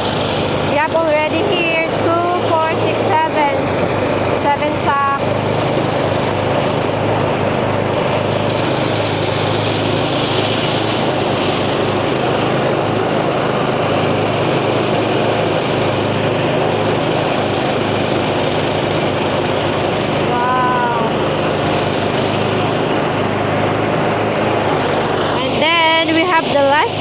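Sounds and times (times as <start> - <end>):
small engine droning: 0.0 - 27.0
thresher machine running: 0.0 - 27.0.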